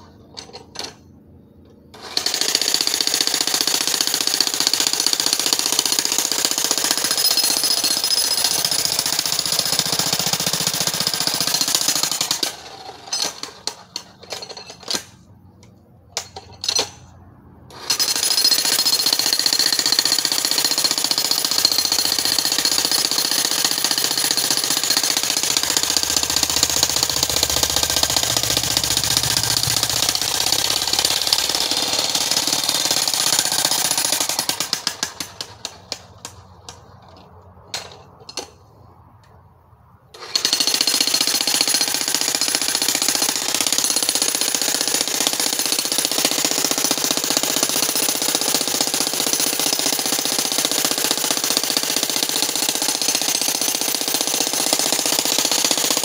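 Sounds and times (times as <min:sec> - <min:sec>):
demolition hammer chiseling rock: 0:02.0 - 0:15.1, 0:17.8 - 0:36.3, 0:40.2 - 0:56.0.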